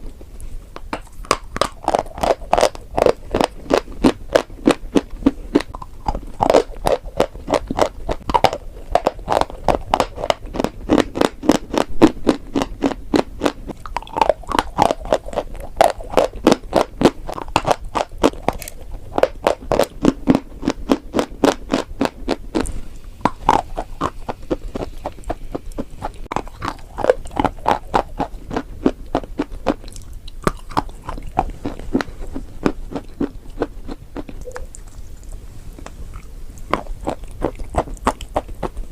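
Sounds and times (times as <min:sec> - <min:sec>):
chewing and crunching chalk: 0:00.8 - 0:38.9.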